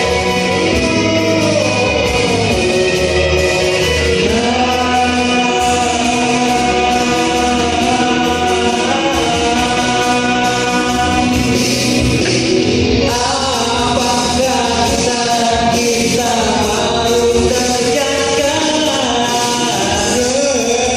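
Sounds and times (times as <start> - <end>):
person singing: 0.0 - 20.9
rock band playing: 0.0 - 20.9.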